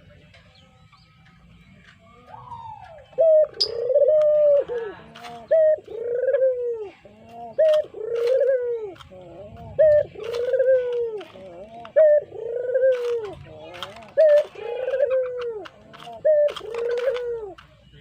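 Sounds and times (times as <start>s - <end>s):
dove cooing: 2.0s - 18.0s.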